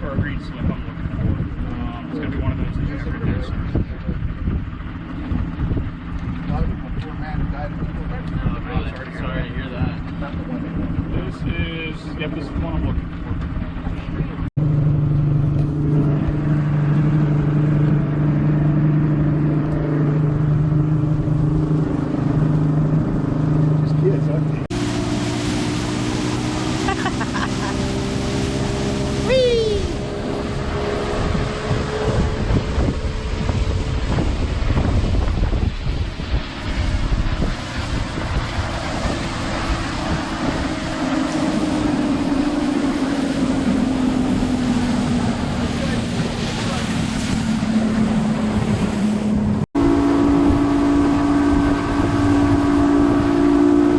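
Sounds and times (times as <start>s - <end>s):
wind buffeting microphone: 0.0s - 23.9s, 24.5s - 53.9s
outboard motor running: 0.0s - 53.9s.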